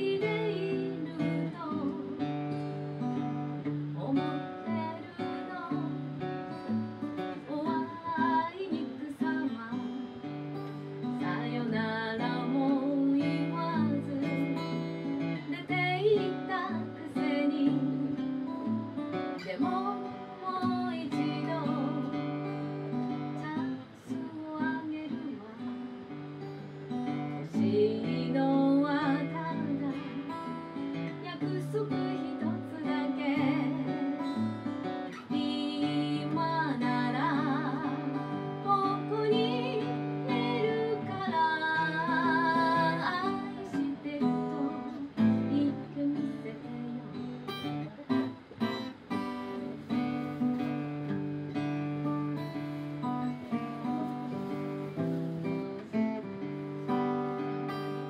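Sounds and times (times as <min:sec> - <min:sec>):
woman singing: 0:00.0 - 0:50.8
acoustic guitar strumming: 0:00.0 - 0:58.0.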